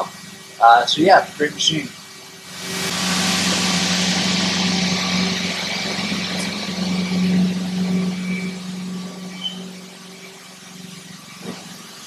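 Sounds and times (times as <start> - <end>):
loud hiss: 0.0 - 12.0
milling machine hum: 1.9 - 12.0.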